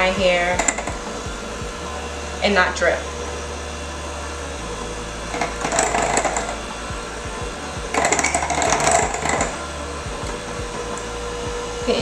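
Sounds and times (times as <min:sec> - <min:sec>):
electric mixer churning paste: 0:00.0 - 0:12.0.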